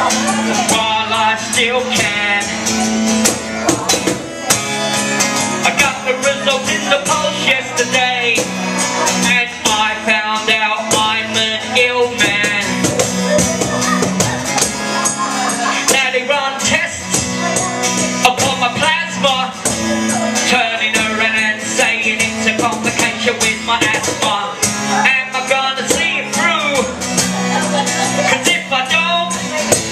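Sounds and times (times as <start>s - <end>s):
man singing into microphone: 0.0s - 3.0s, 5.5s - 14.1s, 15.2s - 29.9s
acoustic guitar: 0.0s - 29.9s
cajon beaten by hand: 0.0s - 29.9s.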